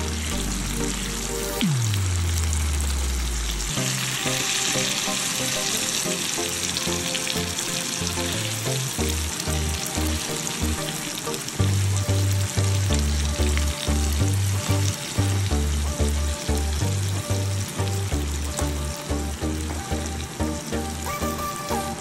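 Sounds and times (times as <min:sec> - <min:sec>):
background music with bass: 0:00.0 - 0:22.0
fish sizzling in hot oil: 0:00.0 - 0:22.0.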